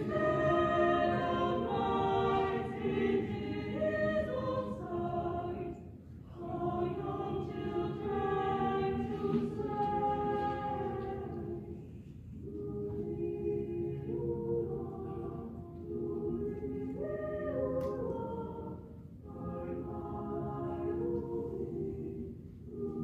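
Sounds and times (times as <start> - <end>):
choir singing a cappella: 0.0 - 23.0.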